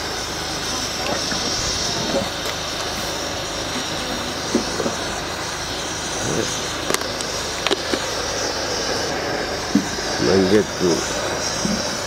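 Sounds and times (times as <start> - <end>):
high hiss: 0.0 - 12.0
outdoor background noise: 0.0 - 12.0.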